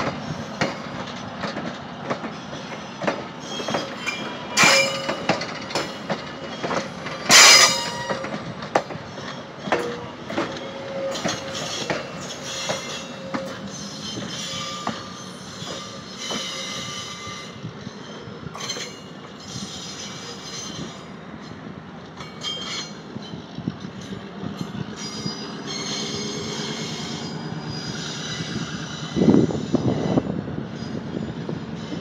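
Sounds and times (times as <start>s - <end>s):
train coaches rolling on rails: 0.0s - 32.0s
train wheels squealing: 2.2s - 21.6s, 22.2s - 32.0s.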